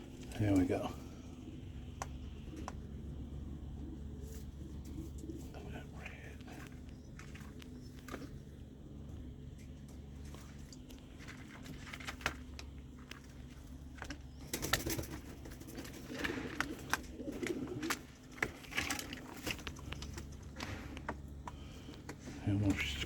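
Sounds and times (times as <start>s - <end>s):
pigeons cooing: 0.0s - 23.0s
steady low hum: 0.0s - 23.0s.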